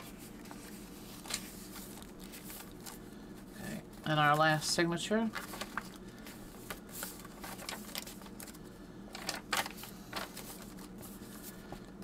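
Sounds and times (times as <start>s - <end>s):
paper pages rustling: 0.0s - 3.0s, 5.2s - 12.0s
faint steady hum: 0.0s - 12.0s.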